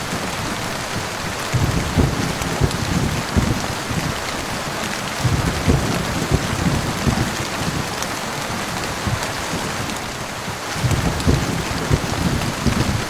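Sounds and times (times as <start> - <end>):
heavy rain on a surface: 0.0 - 13.0.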